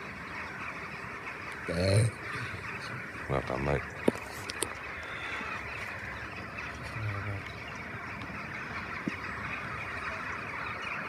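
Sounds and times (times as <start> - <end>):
jackdaw flock calling: 0.0 - 11.0.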